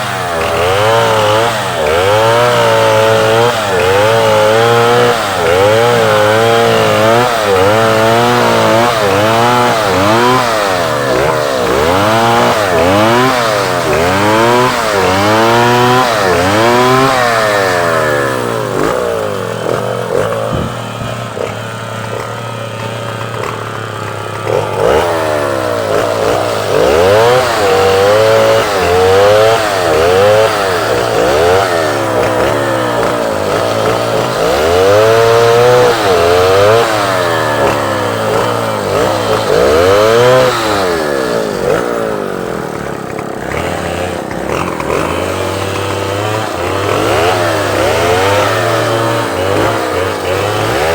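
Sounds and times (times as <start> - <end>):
chainsaw engine revving: 0.0 - 50.9.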